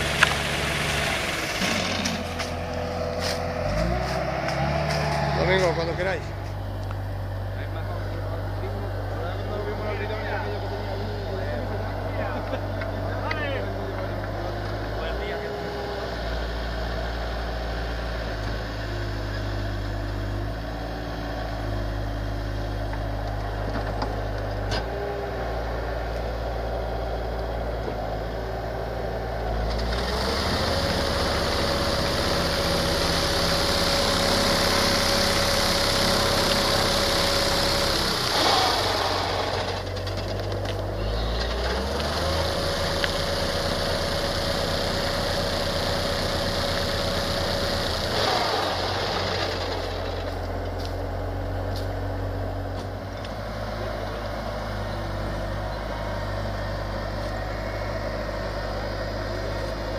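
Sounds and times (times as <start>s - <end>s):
skid-steer loader engine running: 0.0s - 59.9s.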